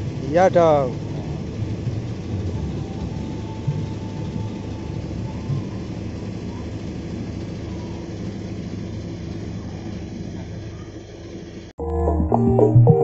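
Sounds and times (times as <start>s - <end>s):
engine idling: 0.0s - 11.8s.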